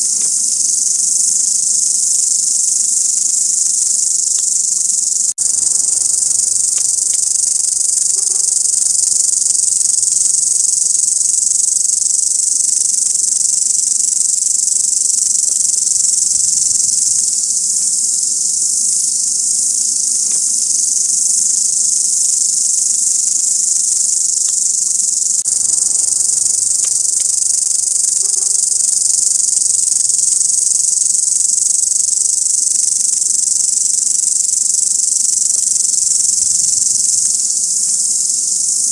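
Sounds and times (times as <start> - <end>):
grasshopper stridulating: 0.0 - 38.9.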